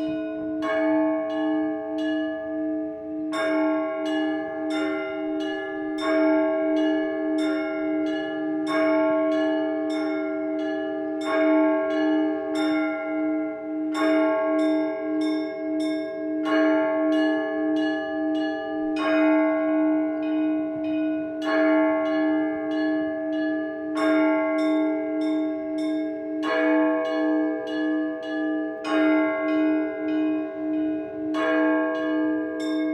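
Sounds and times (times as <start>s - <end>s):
pulsing bell ringing hum: 0.0s - 32.9s.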